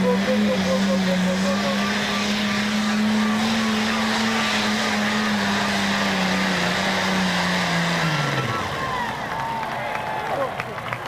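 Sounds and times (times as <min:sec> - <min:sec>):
tractor engine at full throttle: 0:00.0 - 0:11.0.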